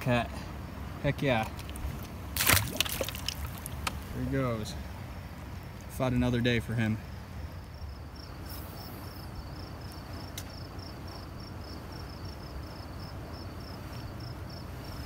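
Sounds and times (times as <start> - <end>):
low steady rumble: 0.0 - 15.0
cricket chirping: 0.5 - 15.0.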